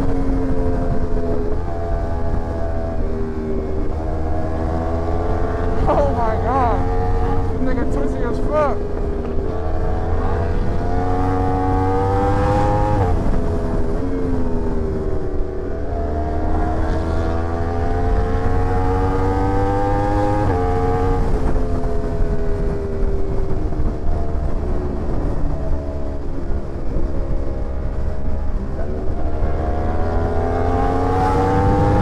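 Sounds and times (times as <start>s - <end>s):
steady low rumble: 0.0s - 18.7s, 20.4s - 32.0s
motorcycle engine accelerating: 0.0s - 32.0s.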